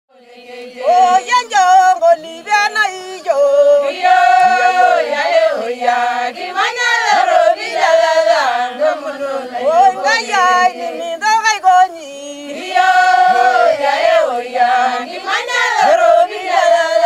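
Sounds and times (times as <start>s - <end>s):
women singing unaccompanied: 0.1s - 17.0s.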